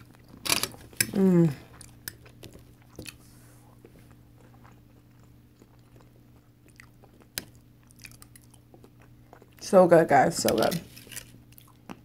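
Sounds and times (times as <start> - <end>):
chewing mouth sounds: 0.0 - 9.6, 10.9 - 12.0
low steady hum: 0.0 - 12.0.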